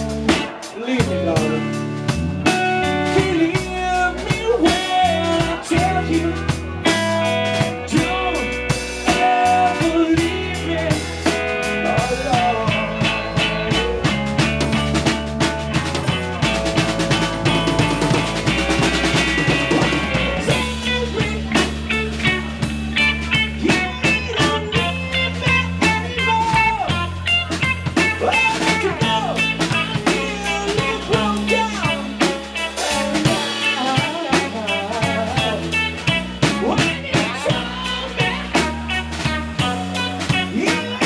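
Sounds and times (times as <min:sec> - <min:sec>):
man singing: 0:00.0 - 0:14.9, 0:15.7 - 0:41.0
bass guitar: 0:00.0 - 0:41.0
drum kit beat: 0:00.0 - 0:41.0
electric guitar: 0:00.0 - 0:41.0.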